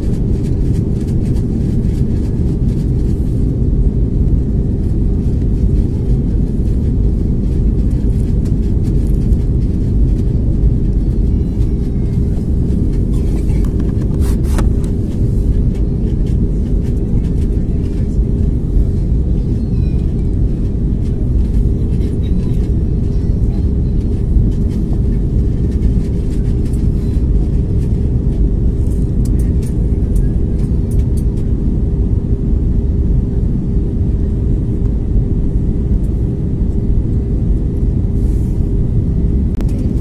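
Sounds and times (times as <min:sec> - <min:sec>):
airliner cabin engine rumble: 0:00.0 - 0:40.0
steady hum: 0:00.0 - 0:40.0.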